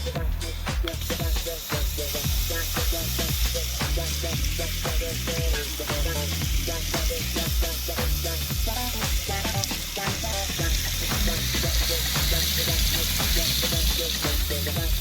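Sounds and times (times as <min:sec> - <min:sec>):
music with beat and bass: 0:00.0 - 0:15.0
steady hiss: 0:00.0 - 0:15.0.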